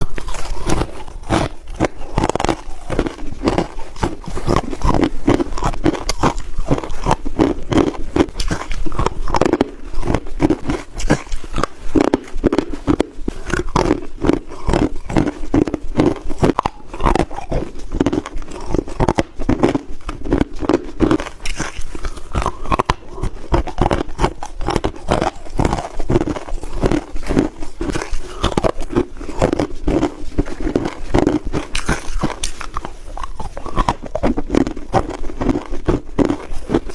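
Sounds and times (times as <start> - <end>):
crushed ice being chewed: 0.0 - 36.9.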